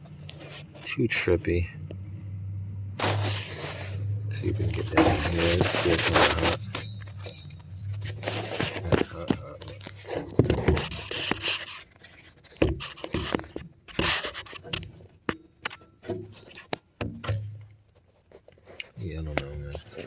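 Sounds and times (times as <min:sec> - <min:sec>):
metal scraping and clinking: 0:03.0 - 0:20.0.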